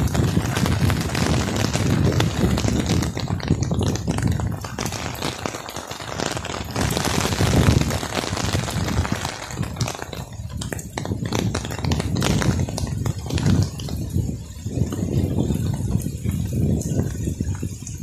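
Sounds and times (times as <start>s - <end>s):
close raindrops tapping: 0.0s - 18.0s
steady rain falling: 0.0s - 18.0s.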